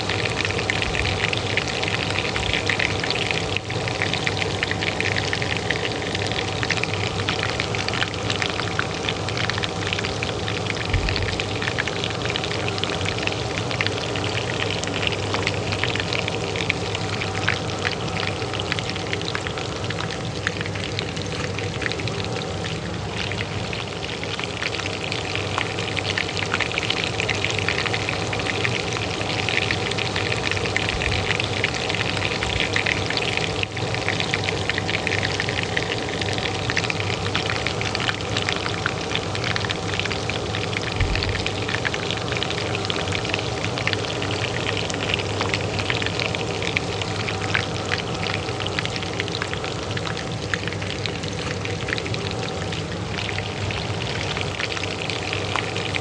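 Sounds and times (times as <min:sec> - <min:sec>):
oil sizzling in a pan: 0:00.0 - 0:56.0
range hood fan hum: 0:00.0 - 0:56.0.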